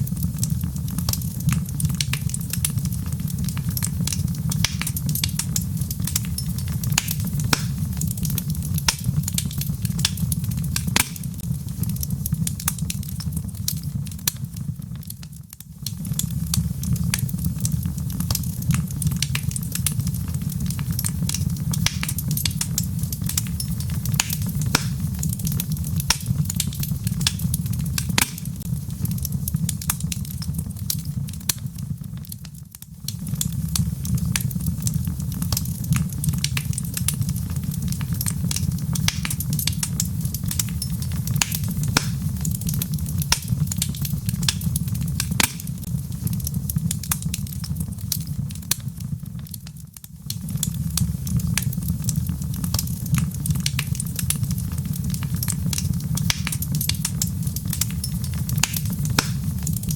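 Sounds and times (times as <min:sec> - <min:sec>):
logs crackling and popping: 0:00.0 - 0:59.9
low rumble of flames: 0:00.0 - 0:59.9.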